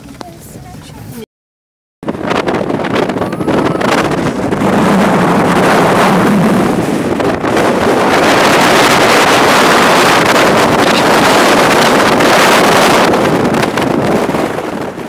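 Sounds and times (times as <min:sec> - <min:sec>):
wind rushing over microphone: 0:02.0 - 0:15.0.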